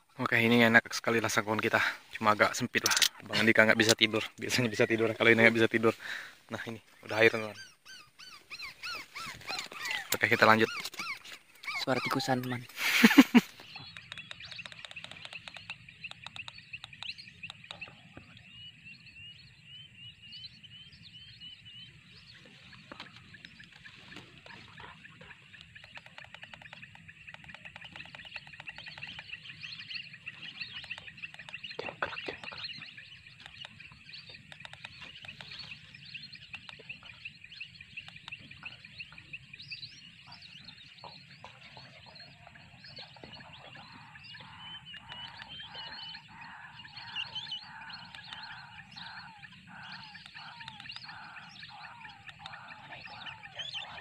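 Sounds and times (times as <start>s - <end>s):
crakes calling: 0.0s - 18.6s, 21.0s - 54.0s
steady chirping chorus: 0.0s - 54.0s.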